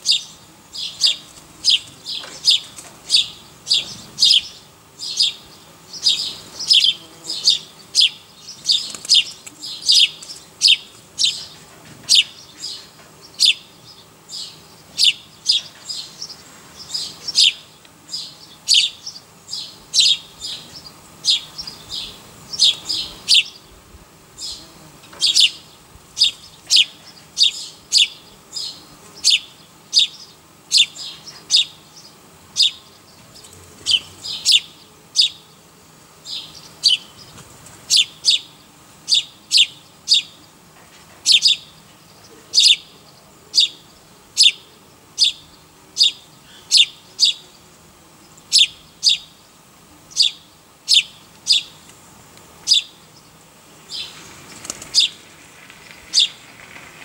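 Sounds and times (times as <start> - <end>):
small bird chirping: 0.0 - 23.7, 24.4 - 35.4, 36.2 - 40.5, 41.2 - 47.6, 48.2 - 49.4, 50.1 - 51.9, 52.6 - 56.6.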